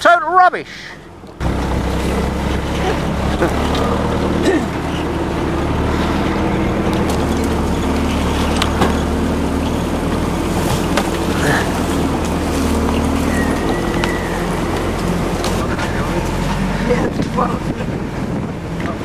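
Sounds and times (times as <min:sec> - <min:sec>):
vehicle engine running: 0:00.0 - 0:19.0
vehicle knocks and rattles: 0:01.1 - 0:19.0.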